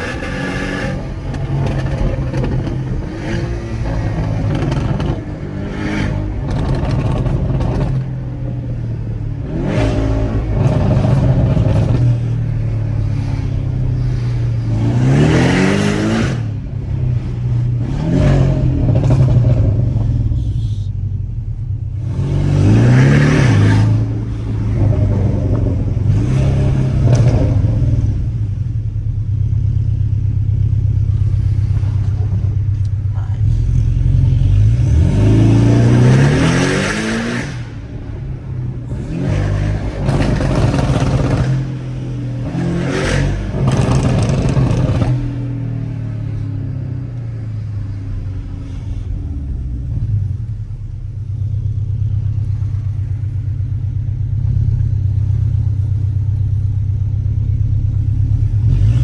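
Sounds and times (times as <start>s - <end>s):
exhaust pops and crackles: 0.0s - 14.8s, 18.4s - 22.2s, 22.9s - 38.0s, 38.8s - 47.4s, 48.0s - 59.0s
car engine revving: 0.0s - 59.0s.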